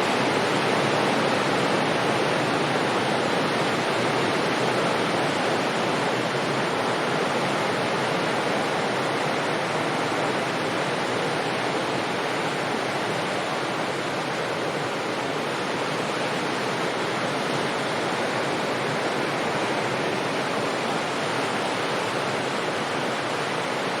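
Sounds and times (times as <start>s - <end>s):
distant sea waves breaking: 0.0s - 24.0s.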